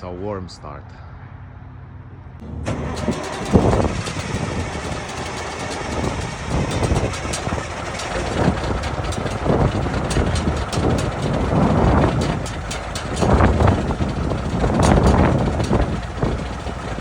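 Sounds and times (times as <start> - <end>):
diesel truck engine idling: 2.4 - 17.0.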